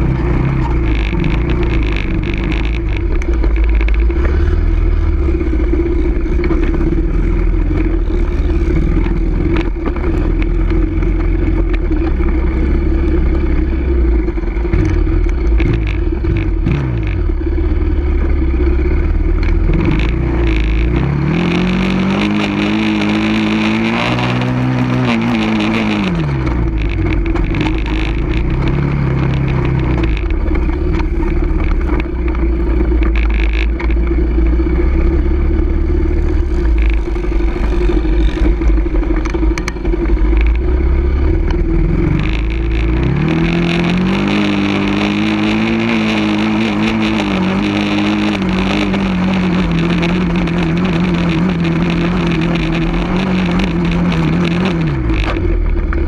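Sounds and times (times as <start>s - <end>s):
off-road vehicle engine running: 0.0s - 56.0s
wind rumbling on microphone: 0.0s - 56.0s.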